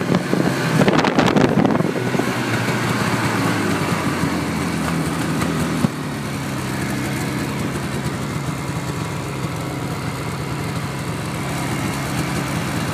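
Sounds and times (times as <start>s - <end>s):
snowmobile engine running: 0.0s - 12.9s.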